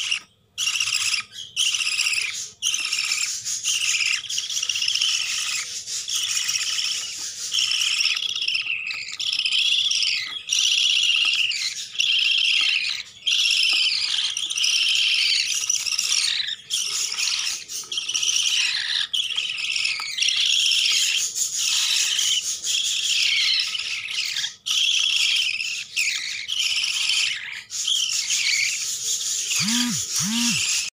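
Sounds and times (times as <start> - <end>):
budgerigar chicks chirring: 0.0 - 30.9.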